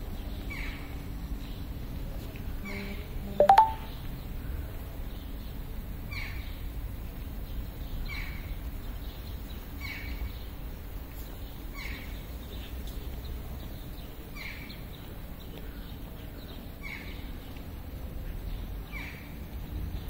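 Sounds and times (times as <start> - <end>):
low city rumble: 0.0 - 20.0.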